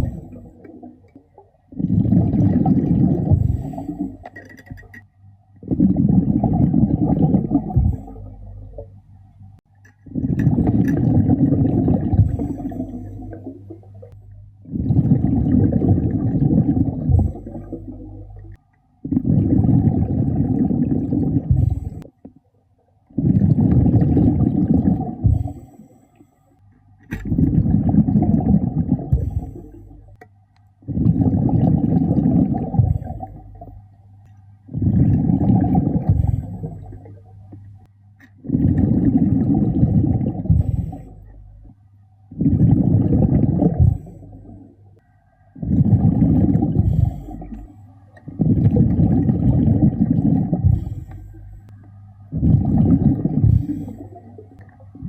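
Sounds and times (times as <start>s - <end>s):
exhaled breath bubbling underwater: 0.0s - 5.0s, 5.6s - 9.0s, 10.0s - 22.3s, 23.0s - 30.2s, 30.8s - 34.0s, 34.6s - 37.7s, 38.3s - 55.0s.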